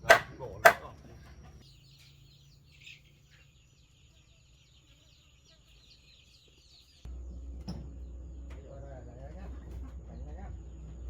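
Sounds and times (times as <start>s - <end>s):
faint bird song chirps: 0.0s - 11.0s.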